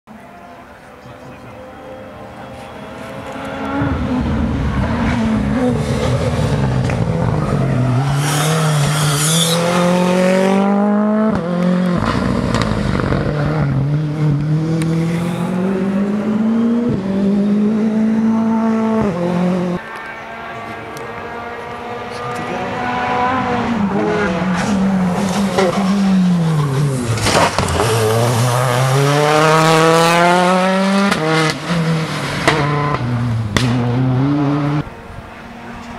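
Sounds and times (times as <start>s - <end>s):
rally car engine accelerating: 0.4s - 35.9s.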